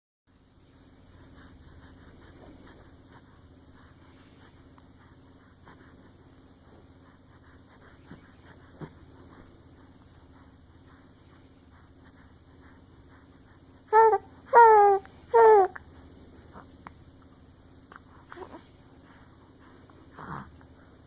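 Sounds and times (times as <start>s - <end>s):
steady low hum: 0.3s - 21.0s.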